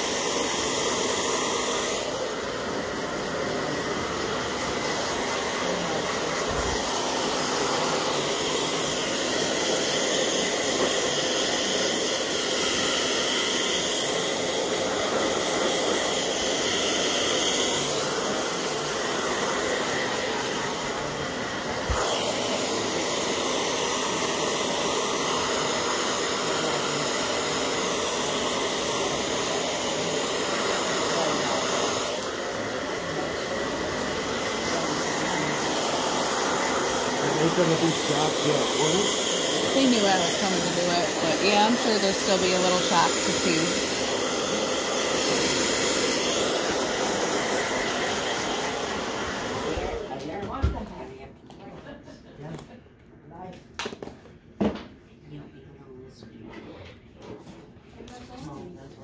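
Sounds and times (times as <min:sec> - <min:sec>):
hair dryer running: 0:00.0 - 0:50.8.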